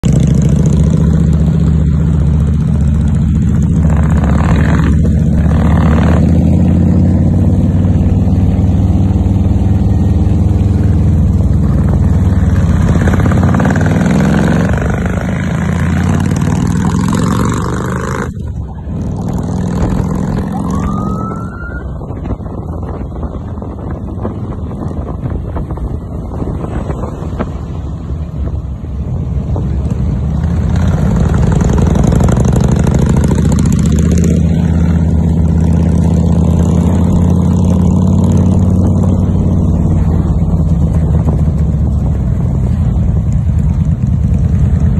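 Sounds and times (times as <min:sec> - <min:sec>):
motorcycle engines rumbling: 0:00.0 - 0:44.9.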